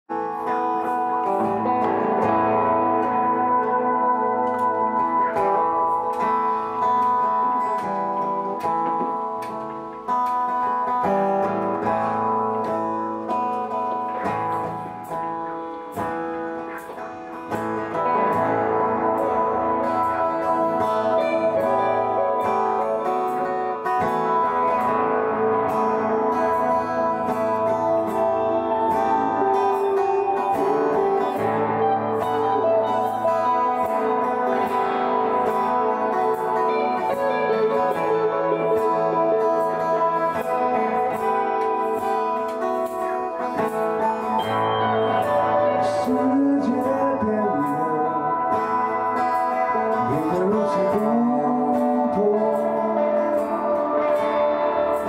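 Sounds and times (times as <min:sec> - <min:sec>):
acoustic and electric guitars playing: 0:00.0 - 0:55.0.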